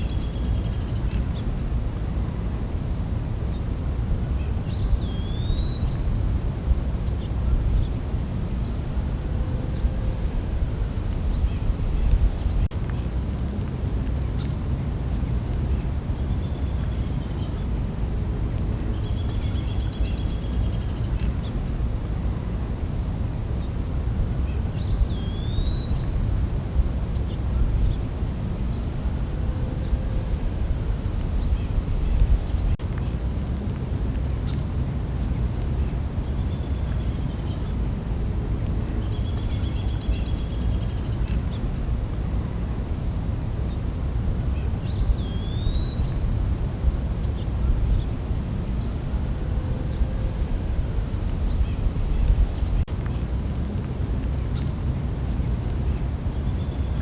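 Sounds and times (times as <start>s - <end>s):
buzzy insect trills: 0.0s - 53.6s
crickets chirping: 0.0s - 57.0s.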